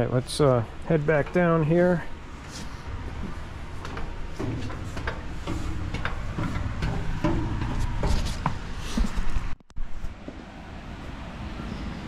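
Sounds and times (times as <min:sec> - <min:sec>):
footsteps on metal staircase: 0:00.0 - 0:10.4.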